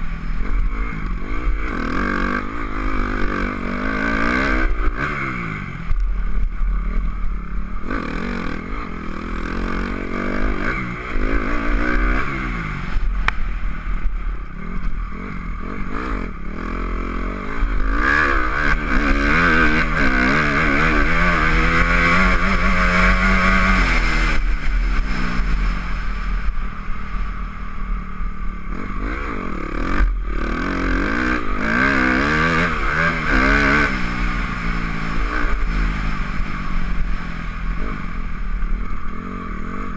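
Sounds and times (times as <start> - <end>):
dirt bike engine revving: 0.0 - 39.9
steady low rumble: 0.0 - 39.9.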